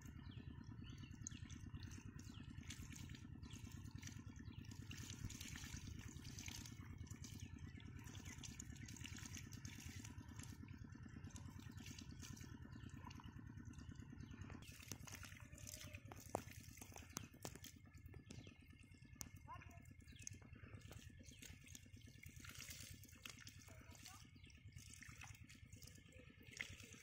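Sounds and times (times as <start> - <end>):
pulsing low hum: 0.0 - 27.0
water trickling and dripping: 1.0 - 27.0.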